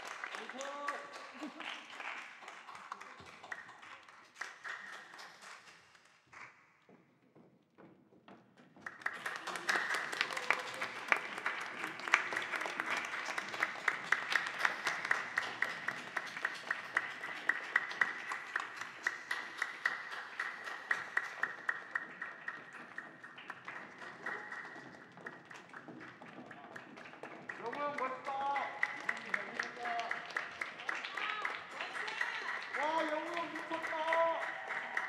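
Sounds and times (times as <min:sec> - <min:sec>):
audience applause: 0:00.0 - 0:05.8, 0:08.8 - 0:35.0
loud individual claps: 0:00.0 - 0:07.1, 0:08.6 - 0:35.0.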